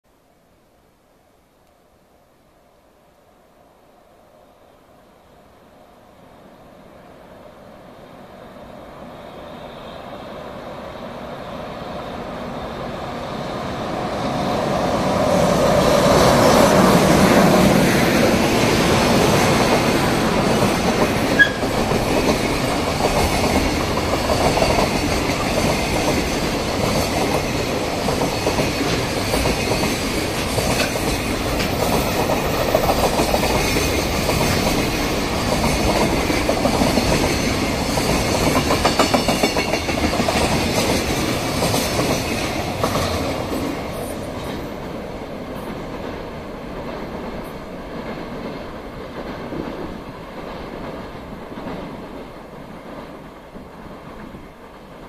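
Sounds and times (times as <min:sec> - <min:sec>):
freight train passing: 0:02.9 - 0:55.0.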